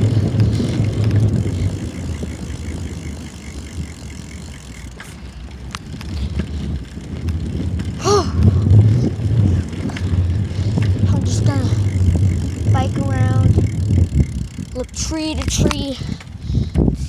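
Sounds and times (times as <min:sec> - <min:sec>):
bicycle rumble: 0:00.0 - 0:17.0.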